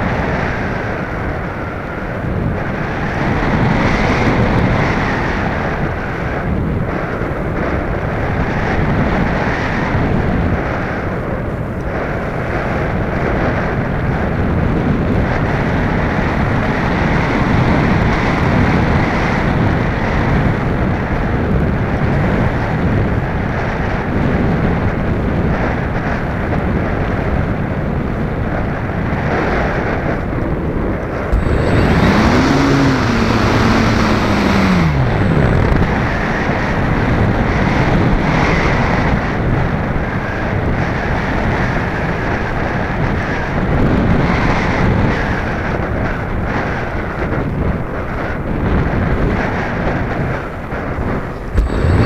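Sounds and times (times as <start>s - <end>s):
wind rushing over camera: 0.0s - 52.0s.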